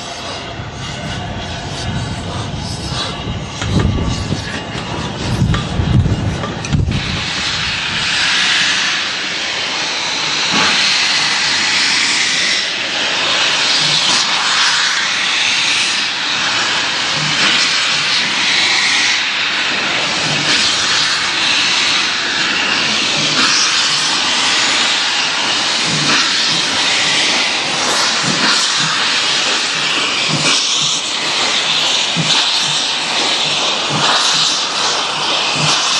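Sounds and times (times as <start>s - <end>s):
steam hissing from locomotive: 0.0s - 35.9s.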